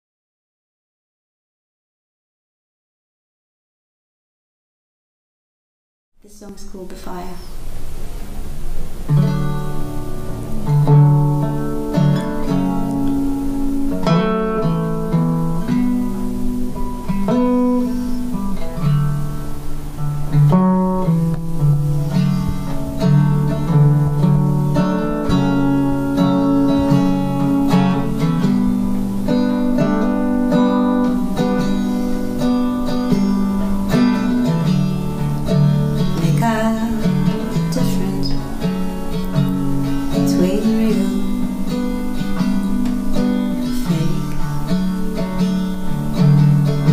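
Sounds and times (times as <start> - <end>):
acoustic resonator guitar chords: 6.3 - 46.9.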